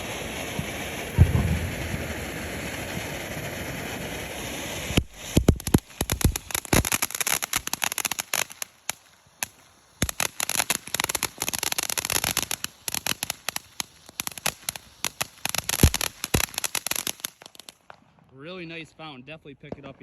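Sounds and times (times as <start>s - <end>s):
firework hiss: 0.0s - 18.0s
fountain firework crackling pops: 0.0s - 18.4s.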